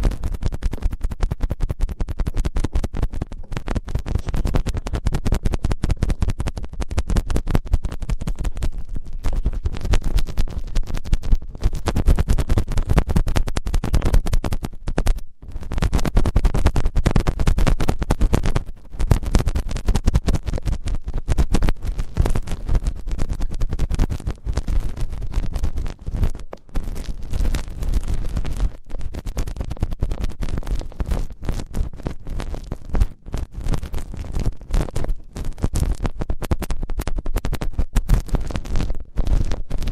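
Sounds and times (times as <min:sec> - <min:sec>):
scratching and rubbing on microphone: 0:00.0 - 0:39.9.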